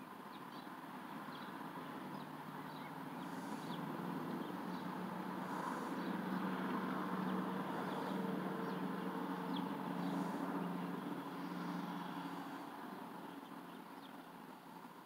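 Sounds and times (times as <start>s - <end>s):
vehicle engine humming: 0.0s - 15.0s
faint bird chirps: 0.3s - 14.2s.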